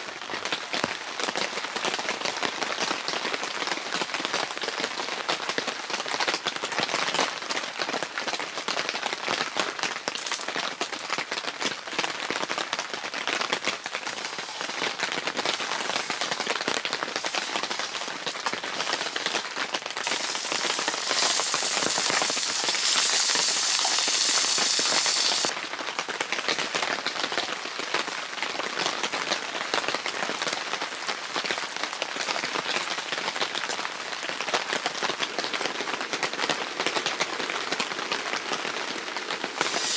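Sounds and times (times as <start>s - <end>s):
rain pattering on tent fabric: 0.0s - 39.9s.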